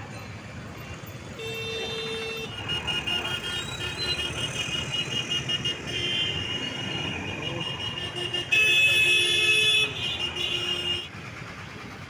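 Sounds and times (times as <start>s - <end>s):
motorbikes passing: 0.0s - 12.0s
street traffic: 0.0s - 12.0s.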